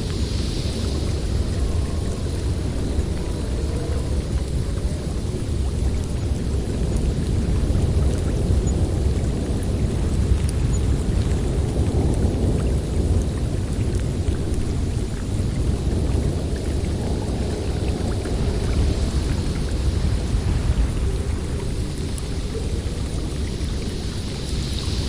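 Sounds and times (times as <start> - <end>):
snowstorm wind blowing: 0.0 - 25.0.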